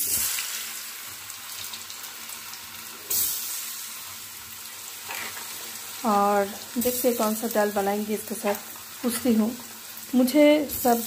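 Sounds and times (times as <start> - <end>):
potatoes deep-frying in oil: 0.0 - 11.0.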